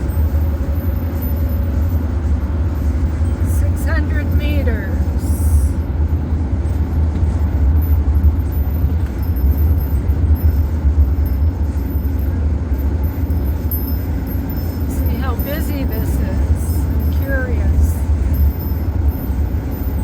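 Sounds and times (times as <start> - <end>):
road and engine noise in van: 0.0 - 20.0.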